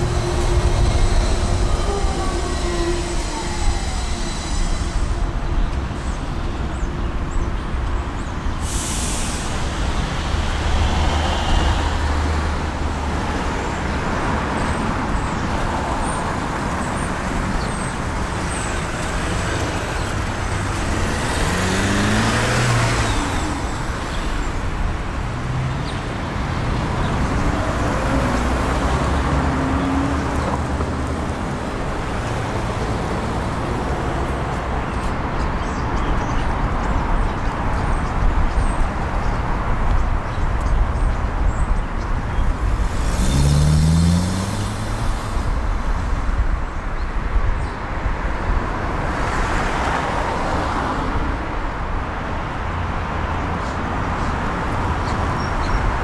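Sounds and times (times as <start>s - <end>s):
traffic passing: 0.0s - 56.0s.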